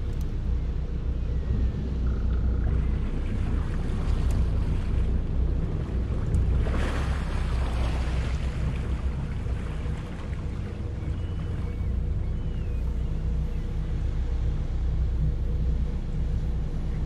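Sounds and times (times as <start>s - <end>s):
boat diesel engines rumbling: 0.0s - 17.0s.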